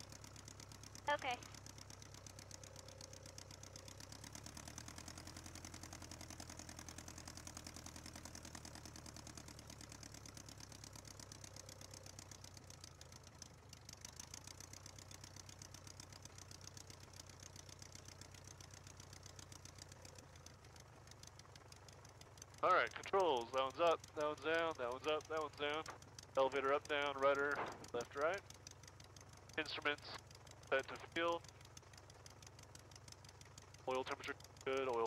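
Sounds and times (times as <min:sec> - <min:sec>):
small airplane engine idling: 0:00.0 - 0:35.0.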